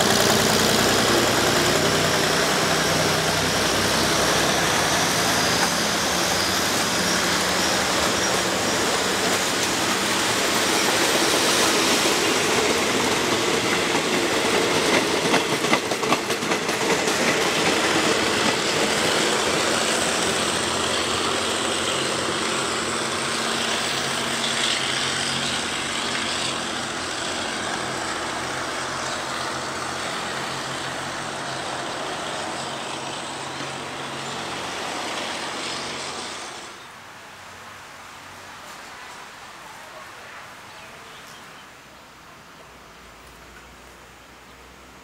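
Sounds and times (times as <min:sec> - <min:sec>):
diesel train engine hum: 0:00.0 - 0:45.0.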